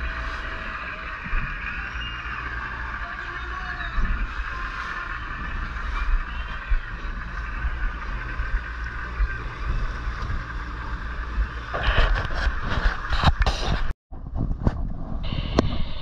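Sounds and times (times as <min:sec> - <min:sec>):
boat wake rushing: 0:00.0 - 0:13.9
outboard motor running: 0:00.0 - 0:13.9
wind buffeting microphone: 0:00.0 - 0:16.0.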